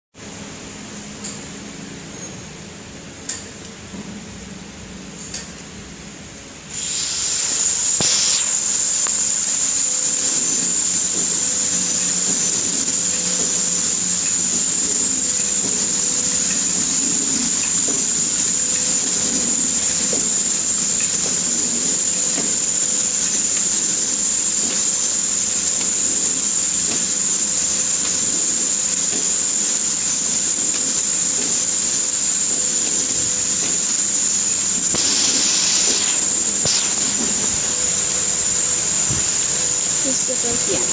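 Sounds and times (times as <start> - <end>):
wrapping machine whining: 6.7 - 40.9.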